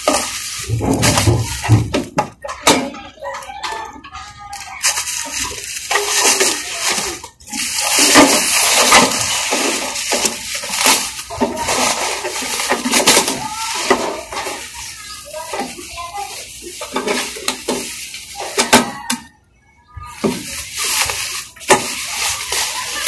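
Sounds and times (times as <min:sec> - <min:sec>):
plastic wrapping crinkling: 0:00.0 - 0:02.4, 0:03.3 - 0:19.2, 0:20.0 - 0:23.0.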